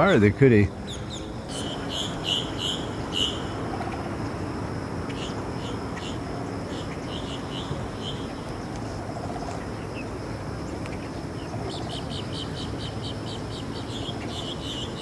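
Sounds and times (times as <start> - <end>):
bird chirping: 0.0 - 4.1, 5.1 - 15.0
outdoor background noise: 0.0 - 15.0.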